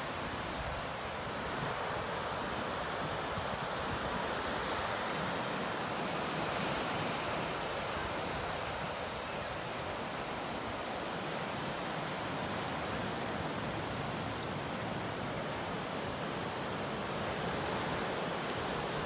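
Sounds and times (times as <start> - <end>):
ocean surf breaking on rocks: 0.1 - 19.0.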